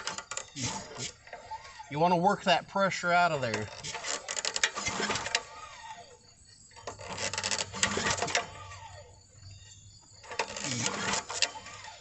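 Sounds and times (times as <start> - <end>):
engine turning over rattling: 0.0 - 12.0
recoil starter pull: 0.0 - 12.0.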